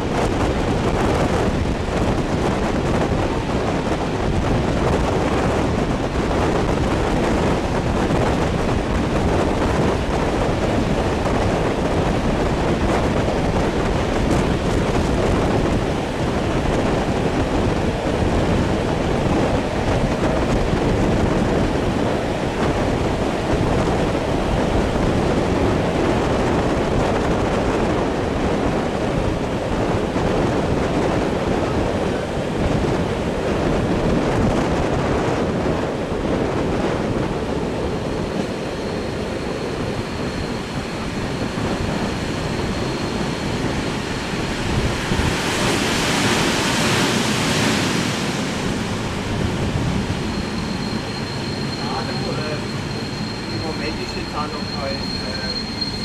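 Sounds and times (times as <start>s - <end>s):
train rumbling along track: 0.0s - 56.0s
wind rushing over microphone: 0.0s - 56.0s.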